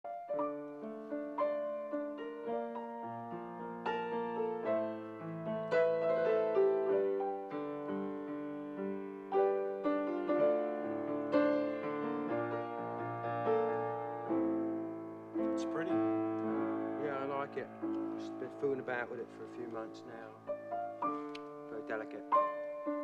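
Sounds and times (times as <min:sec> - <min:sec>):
solo piano piece: 0:00.0 - 0:23.0.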